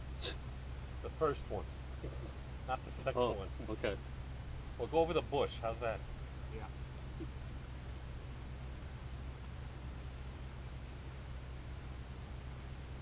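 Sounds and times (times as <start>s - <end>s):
insect chorus trilling: 0.0s - 13.0s
low steady hum: 0.0s - 13.0s.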